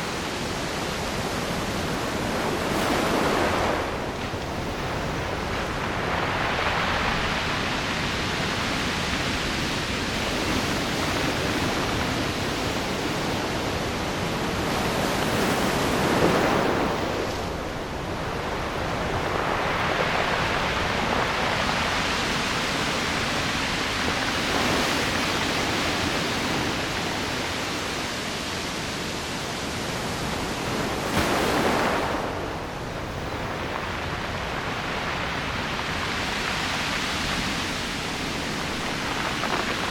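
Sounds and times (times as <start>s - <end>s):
large waves breaking: 0.0s - 39.9s
ocean surf washing onto shore: 0.0s - 39.9s.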